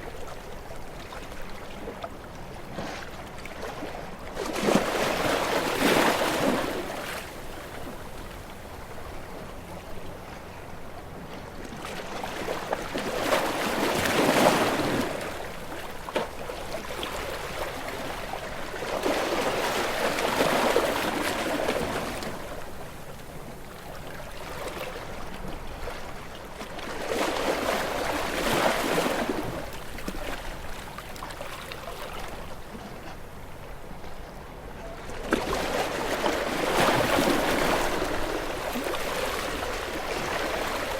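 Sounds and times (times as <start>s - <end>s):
ocean waves breaking: 2.6s - 10.5s, 11.1s - 40.9s.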